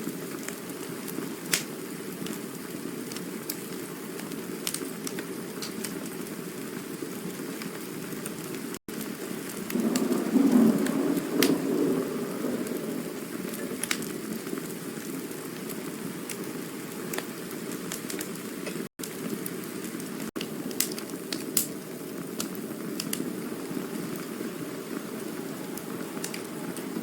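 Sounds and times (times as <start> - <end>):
campfire hissing: 0.0 - 27.0
fire crackles and pops: 0.0 - 27.0.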